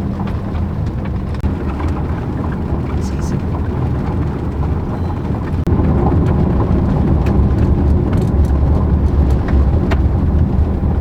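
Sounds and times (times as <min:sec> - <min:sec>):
car tyre and engine rumble: 0:00.0 - 0:11.0.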